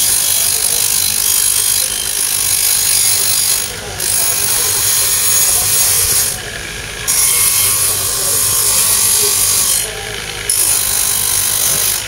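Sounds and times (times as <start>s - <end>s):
blade rubbing on buffing wheel: 0.0s - 12.0s.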